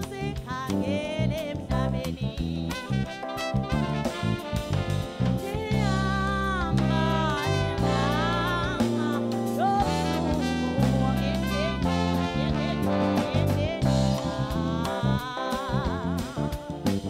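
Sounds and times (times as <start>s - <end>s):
bass notes: 0.0s - 17.0s
drums: 0.0s - 17.0s
sliding jazz melody: 0.0s - 17.0s.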